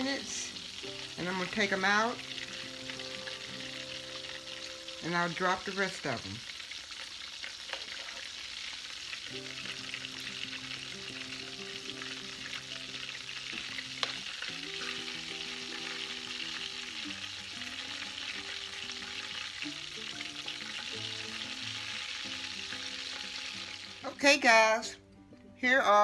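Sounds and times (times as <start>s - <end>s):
soft background music: 0.0s - 6.4s, 8.6s - 26.0s
deep-frying sizzle: 0.0s - 24.4s.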